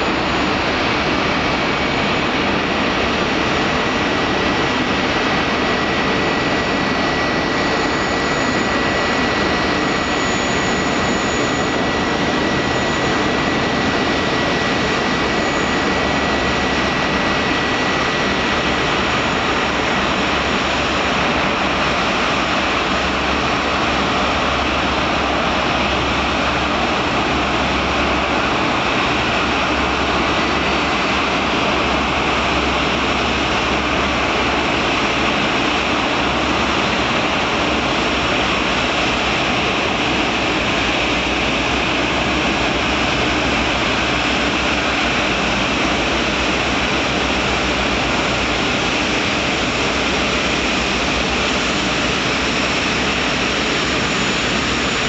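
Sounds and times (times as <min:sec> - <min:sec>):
faint high whine: 0:00.0 - 0:55.0
jet engines rushing: 0:00.0 - 0:55.0.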